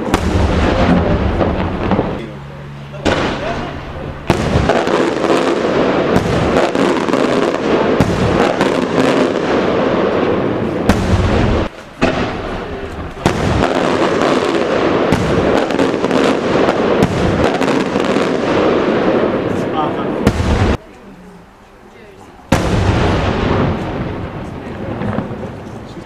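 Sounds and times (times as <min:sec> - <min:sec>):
fireworks bursts and crackling bangs: 0:00.0 - 0:21.1, 0:22.2 - 0:26.0.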